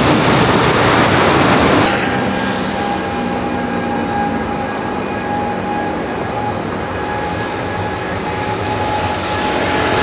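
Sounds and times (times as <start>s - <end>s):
jet engines with high whine: 0.0s - 10.0s.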